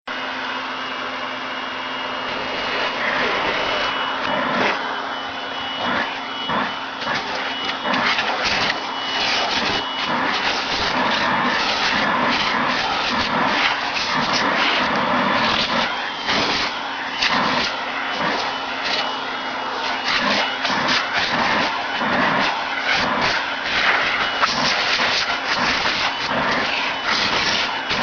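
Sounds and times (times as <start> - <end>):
vacuum cleaner running: 0.1 - 28.0.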